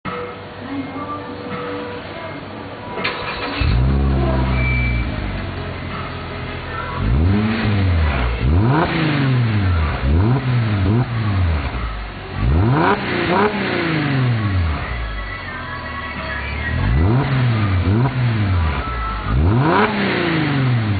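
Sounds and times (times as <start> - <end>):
car engine idling and revving: 3.0 - 20.9.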